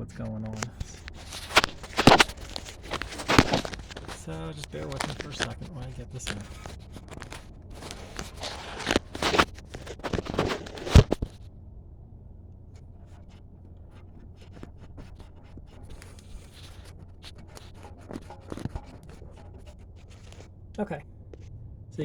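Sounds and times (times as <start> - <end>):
hands scraping and rustling wire: 0.0 - 11.5, 12.7 - 21.5.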